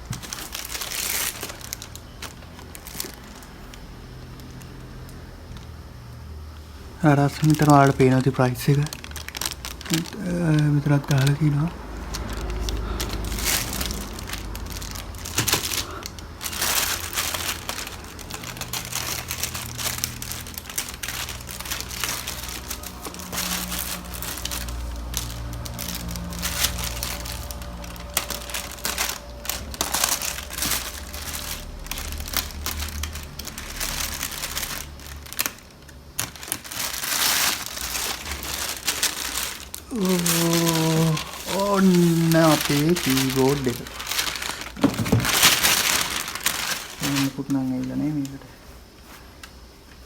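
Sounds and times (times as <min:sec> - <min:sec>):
plastic packaging crinkling: 0:00.0 - 0:50.0.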